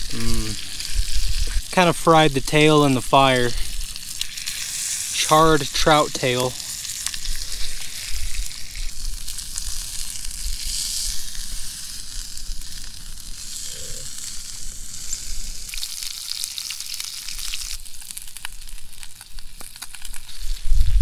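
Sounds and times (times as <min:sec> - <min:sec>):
fish sizzling in skillet: 0:00.0 - 0:21.0
sharp crackles: 0:00.0 - 0:21.0.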